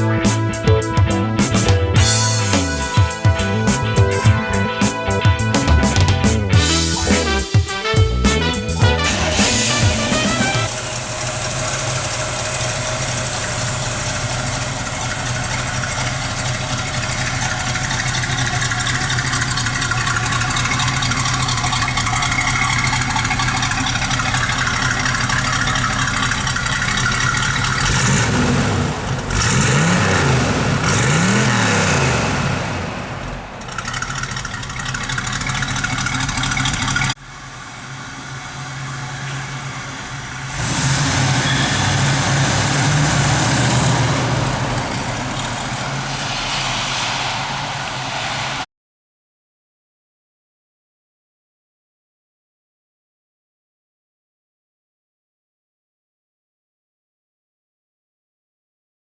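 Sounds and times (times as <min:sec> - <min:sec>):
car engine idling and revving: 0:00.0 - 0:07.3, 0:08.6 - 0:48.7.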